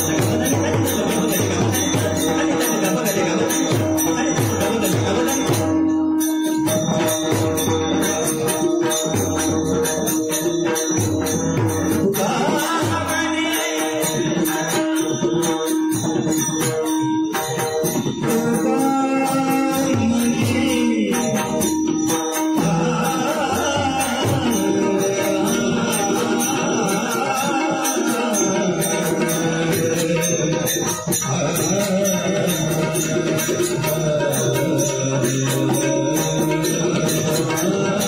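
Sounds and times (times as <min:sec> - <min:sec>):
chanted devotional singing: 0:00.0 - 0:38.0
hand cymbals jingling: 0:00.0 - 0:38.0.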